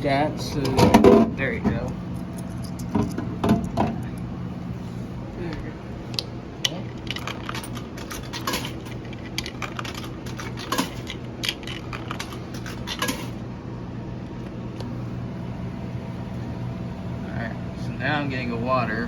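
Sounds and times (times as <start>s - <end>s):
vending machine humming: 0.0s - 19.0s.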